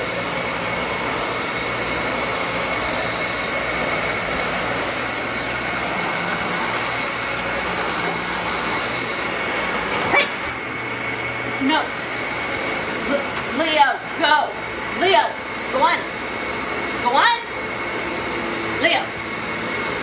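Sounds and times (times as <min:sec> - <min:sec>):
vacuum cleaner running on carpet: 0:00.0 - 0:20.0.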